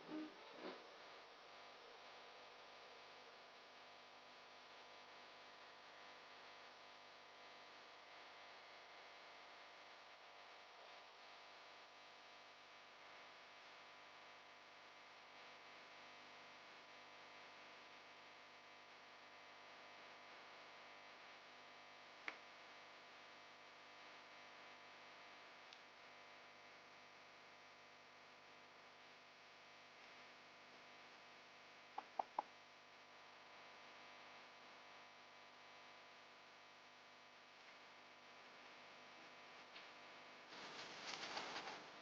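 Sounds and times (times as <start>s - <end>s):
faint steady hum and hiss: 0.0s - 42.0s.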